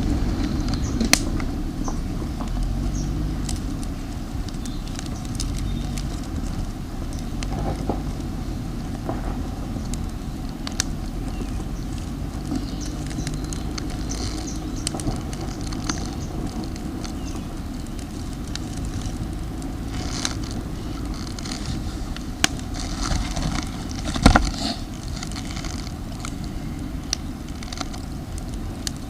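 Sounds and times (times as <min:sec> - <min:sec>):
campfire crackling and popping: 0:00.0 - 0:29.0
low rumble: 0:00.0 - 0:29.0.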